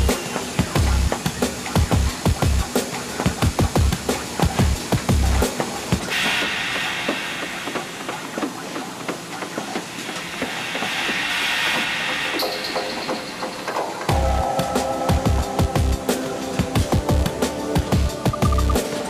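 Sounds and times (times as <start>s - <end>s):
machinery mechanical hiss: 0.0s - 19.0s.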